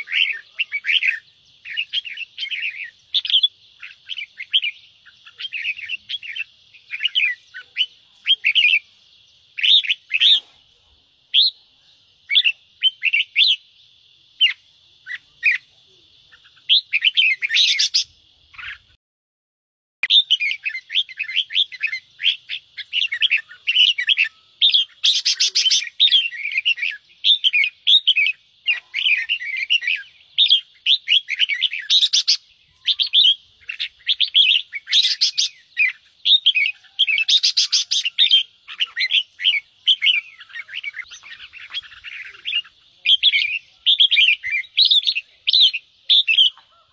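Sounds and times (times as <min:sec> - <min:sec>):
birds chattering scolding calls: 0:00.0 - 0:11.6, 0:12.2 - 0:19.0, 0:20.0 - 0:46.9.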